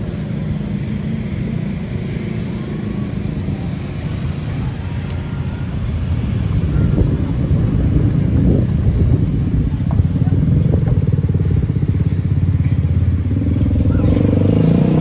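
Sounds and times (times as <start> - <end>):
passing vehicles rumbling: 0.0 - 15.0.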